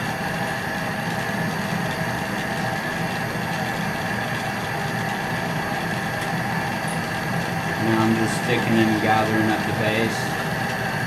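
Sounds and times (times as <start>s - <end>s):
torch flame burning: 0.0s - 11.0s.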